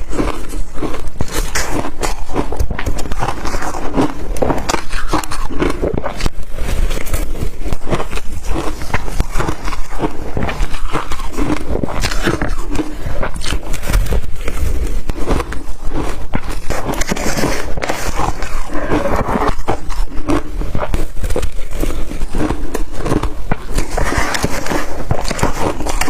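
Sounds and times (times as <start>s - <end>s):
crushed ice being chewed: 0.0s - 26.0s.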